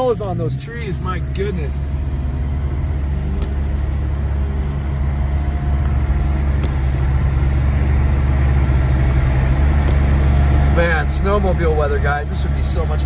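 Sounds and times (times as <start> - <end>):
car engine rumble inside cabin: 0.0 - 13.0
tyres on snowy road: 0.0 - 13.0.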